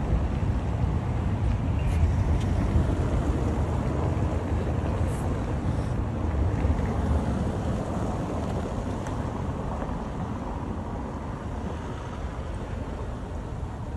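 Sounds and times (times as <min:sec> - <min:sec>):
wind rumbling on microphone: 0:00.0 - 0:13.9.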